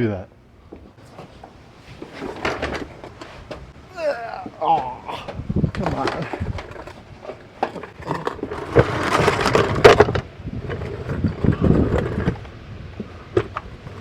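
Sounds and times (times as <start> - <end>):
scraping and knocking on truck: 0.8 - 14.0.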